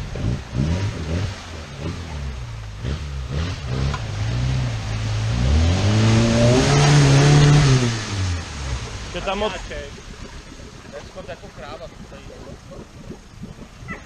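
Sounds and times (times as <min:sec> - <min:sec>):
water splashing: 0:00.0 - 0:14.0.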